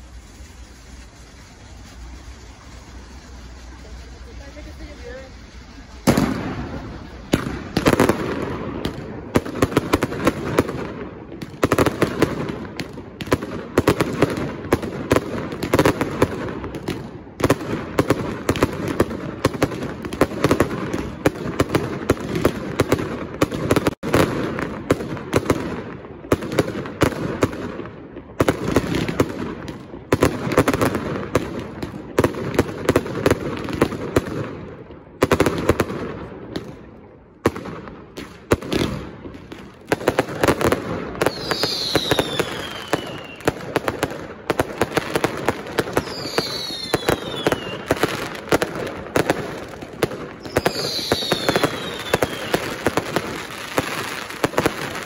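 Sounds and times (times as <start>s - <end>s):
fireworks bursts and bangs: 0.0s - 55.0s.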